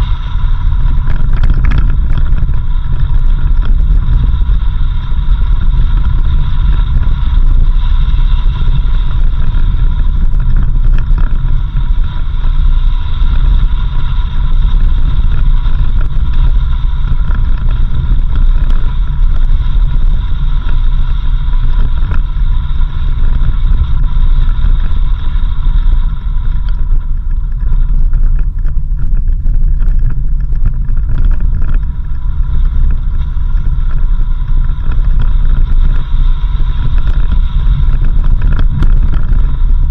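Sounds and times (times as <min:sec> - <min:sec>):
engine and tyres rumbling: 0:00.0 - 0:39.9
high steady whine: 0:00.0 - 0:39.9.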